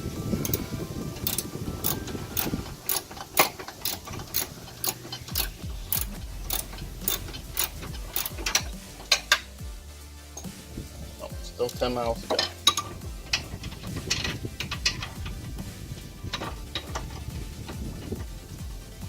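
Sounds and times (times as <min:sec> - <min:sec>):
hand ratchet clicking: 0:00.4 - 0:09.6, 0:10.4 - 0:10.6, 0:11.6 - 0:19.0.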